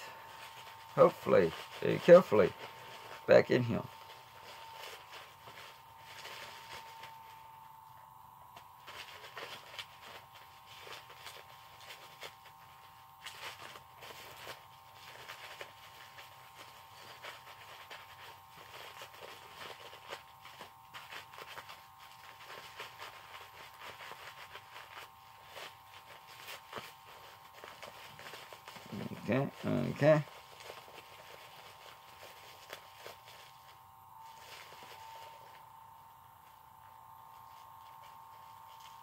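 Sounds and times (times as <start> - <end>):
faint high whine: 0.0 - 39.0.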